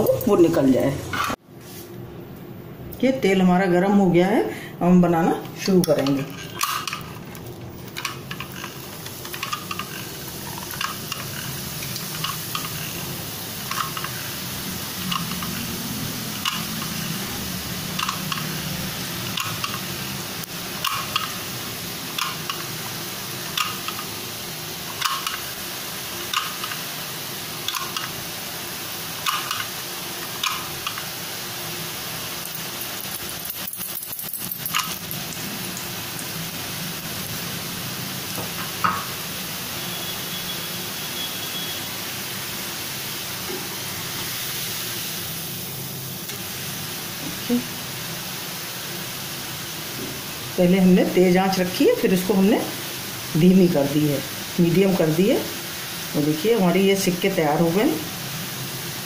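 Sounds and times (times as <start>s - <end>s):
oil sizzling in a frying pan: 5.6s - 59.0s.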